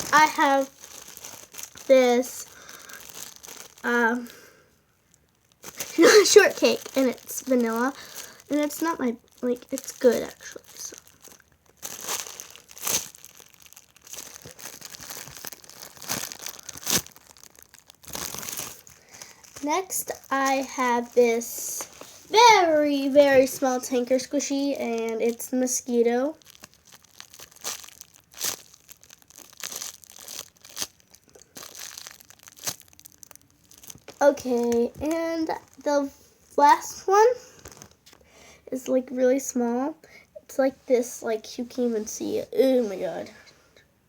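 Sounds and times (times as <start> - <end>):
plastic packaging crinkling: 0.0 - 36.2, 37.5 - 38.3.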